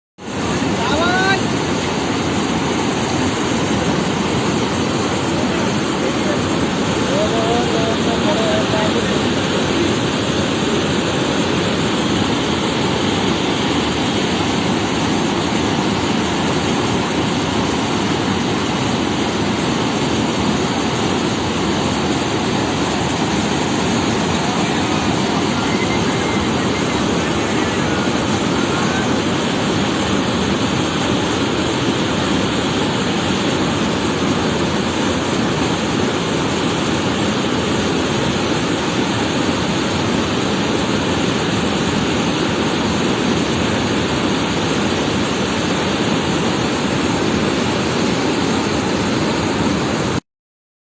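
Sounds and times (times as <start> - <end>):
water rushing in a stream: 0.2 - 50.2.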